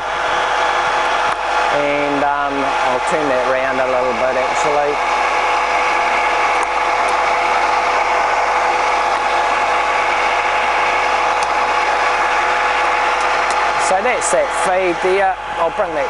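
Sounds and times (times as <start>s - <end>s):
drill gear whine: 0.0s - 16.0s.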